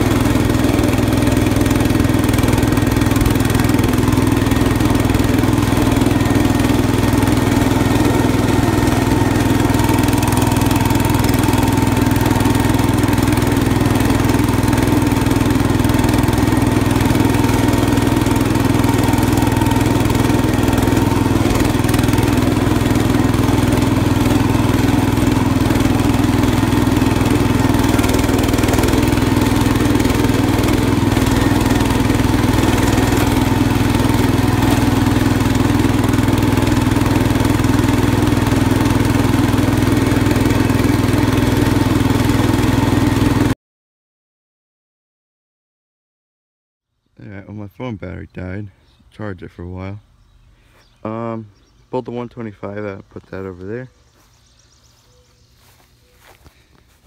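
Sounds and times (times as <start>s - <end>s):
garden tractor engine running: 0.0s - 43.6s, 47.2s - 57.0s.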